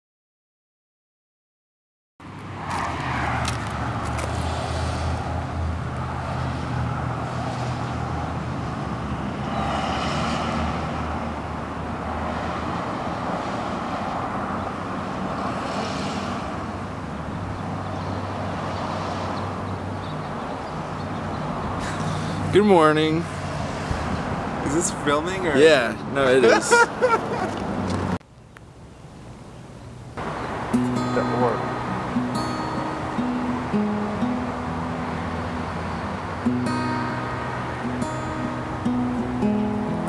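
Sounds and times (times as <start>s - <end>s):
cars passing: 2.2s - 40.0s
road noise rumble: 2.2s - 40.0s.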